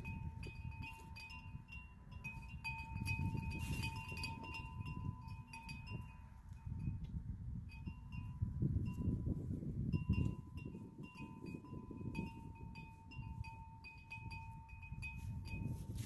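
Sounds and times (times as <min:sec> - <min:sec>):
metal wind chimes ringing: 0:00.0 - 0:07.0, 0:07.7 - 0:16.0
wind rumble on microphone: 0:00.0 - 0:16.0.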